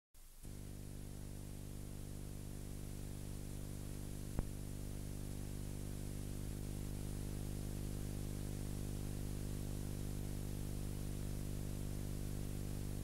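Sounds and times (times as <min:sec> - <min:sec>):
tape hiss: 0:00.2 - 0:13.0
electrical hum: 0:00.3 - 0:13.0.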